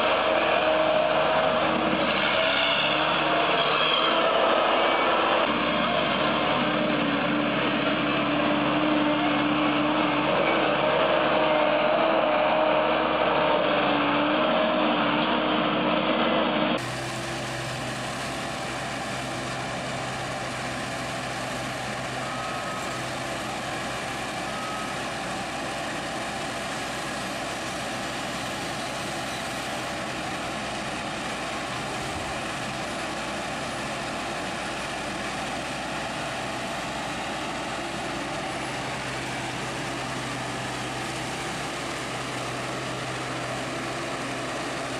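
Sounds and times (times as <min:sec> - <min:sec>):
heavy machinery engine running: 0:00.0 - 0:44.9
steady engine hum: 0:00.0 - 0:44.9.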